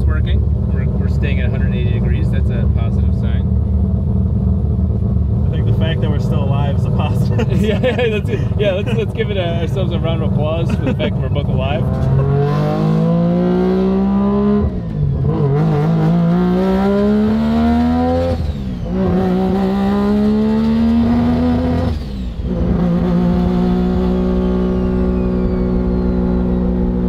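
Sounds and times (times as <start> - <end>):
rotary engine accelerating: 0.2 - 27.0.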